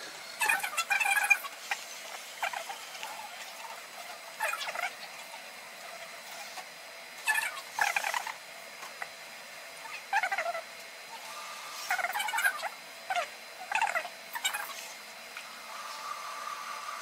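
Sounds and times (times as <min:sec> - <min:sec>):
sped-up squeaky voices: 0:00.4 - 0:08.4, 0:09.8 - 0:17.0.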